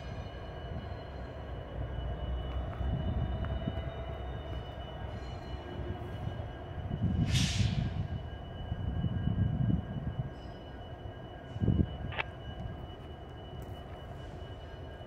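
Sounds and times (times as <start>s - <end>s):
diesel locomotives running: 0.0s - 15.0s.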